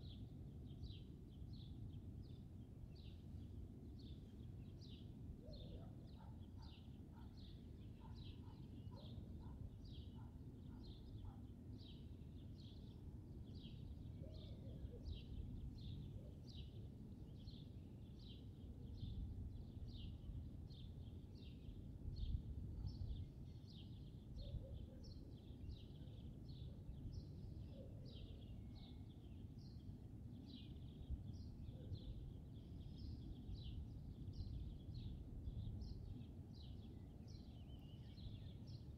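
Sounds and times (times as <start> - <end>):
lower bird chirps: 0.0 - 38.9.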